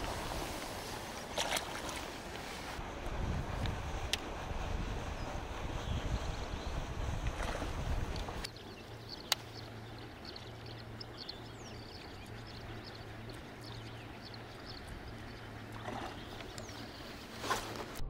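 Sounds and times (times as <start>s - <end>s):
pond ambience: 0.0s - 18.0s.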